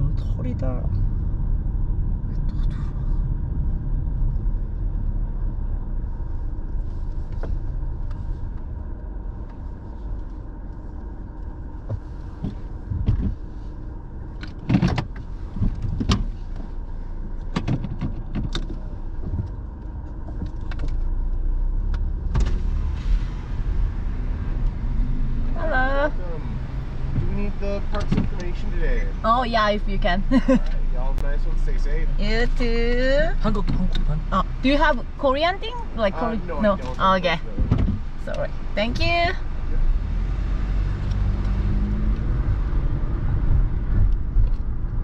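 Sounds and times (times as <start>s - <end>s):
car engine and road rumble: 0.0s - 45.0s.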